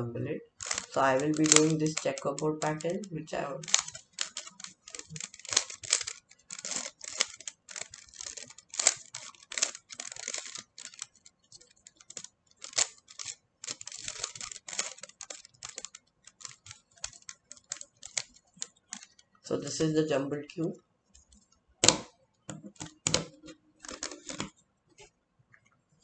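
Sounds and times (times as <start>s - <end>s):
puzzle cube plastic clicks: 0.5s - 19.2s, 21.8s - 24.5s.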